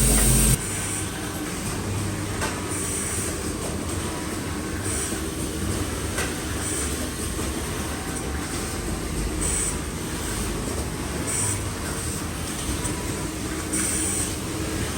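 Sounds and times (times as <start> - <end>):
factory machinery clatter: 0.0 - 14.9.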